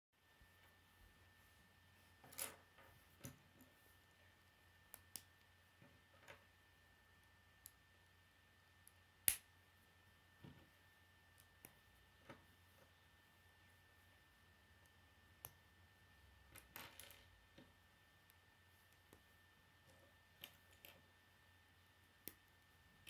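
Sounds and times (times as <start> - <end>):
faint steady hum: 0.2 - 23.0.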